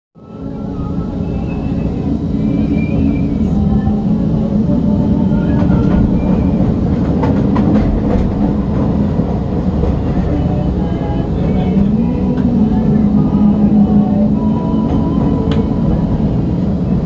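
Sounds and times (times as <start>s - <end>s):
train rumbling: 0.2s - 17.0s.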